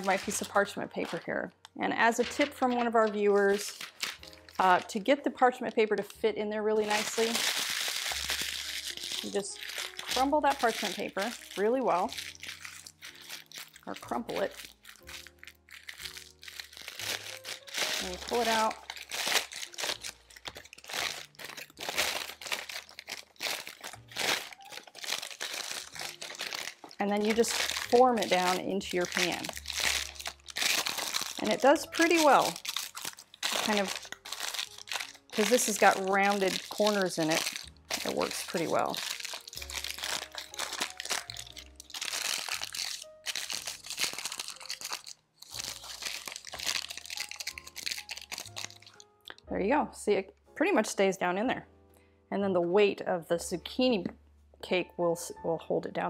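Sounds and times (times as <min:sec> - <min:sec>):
parchment paper crinkling: 0:00.0 - 0:06.2, 0:06.8 - 0:49.0.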